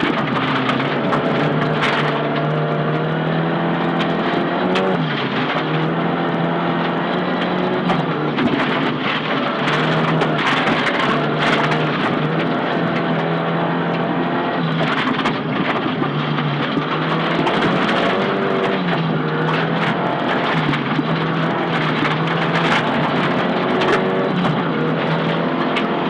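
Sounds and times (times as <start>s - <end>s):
rally car engine from inside: 0.0s - 26.0s
road and tyre noise: 0.0s - 26.0s.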